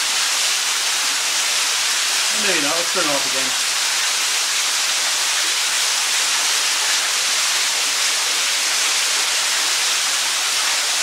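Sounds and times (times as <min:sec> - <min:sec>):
waterfall splashing: 0:00.0 - 0:11.0.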